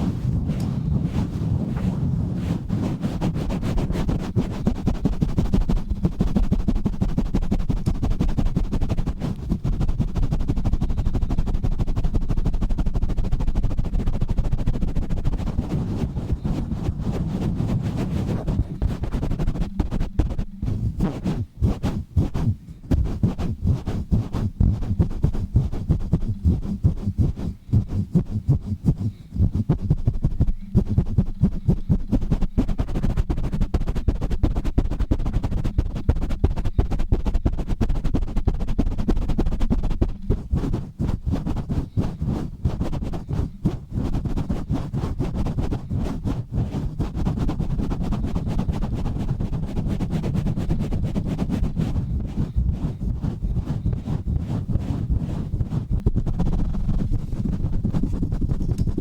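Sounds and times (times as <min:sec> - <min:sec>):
rough rubbing on microphone: 0:00.0 - 0:59.0.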